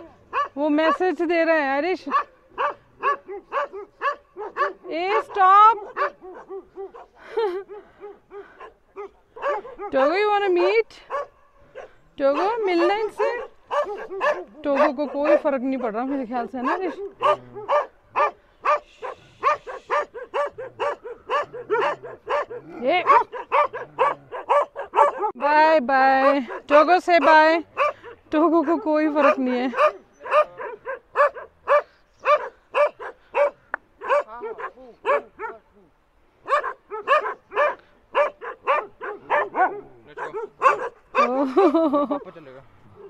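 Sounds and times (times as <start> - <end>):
dogs barking: 0.0 - 35.8, 36.4 - 42.2.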